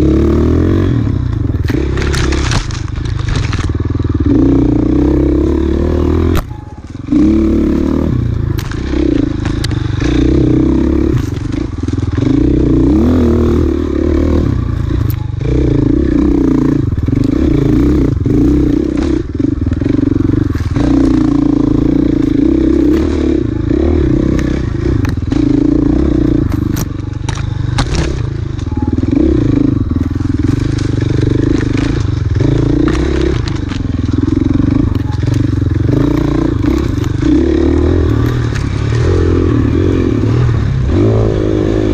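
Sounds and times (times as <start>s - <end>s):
bike rattling and scraping: 0.0s - 41.9s
dirt bike engine revving: 0.0s - 41.9s.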